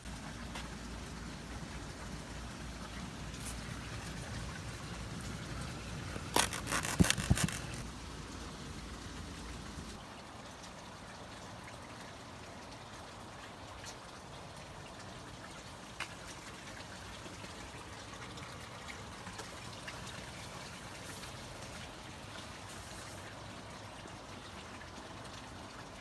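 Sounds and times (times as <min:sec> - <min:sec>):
light drips and ticks: 0:00.0 - 0:26.0
trickling water: 0:00.0 - 0:26.0.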